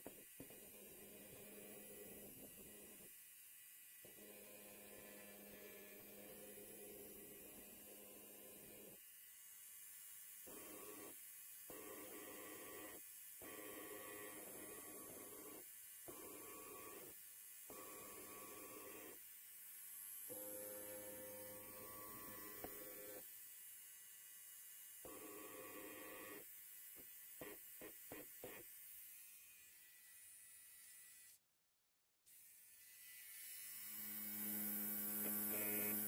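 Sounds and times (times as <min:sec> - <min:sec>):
electric hair clipper buzzing: 0:04.8 - 0:19.3, 0:19.9 - 0:31.4, 0:32.3 - 0:36.0.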